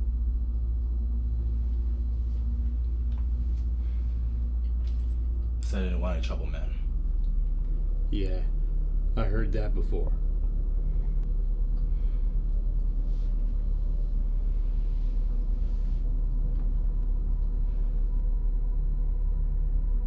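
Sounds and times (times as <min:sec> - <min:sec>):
faint hum: 0:00.0 - 0:20.0
low rumbling drone: 0:00.0 - 0:20.0.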